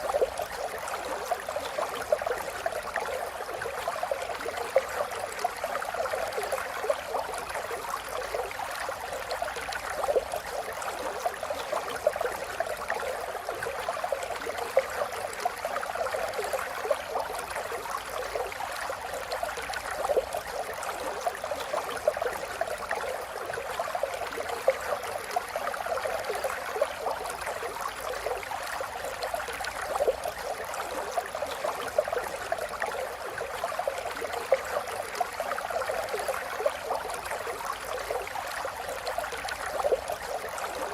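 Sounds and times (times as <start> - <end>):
river water babbling over stones: 0.0 - 40.9.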